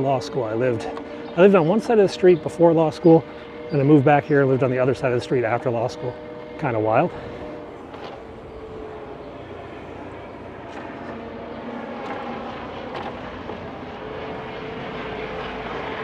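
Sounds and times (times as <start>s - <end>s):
helicopter flying over: 0.0s - 16.0s.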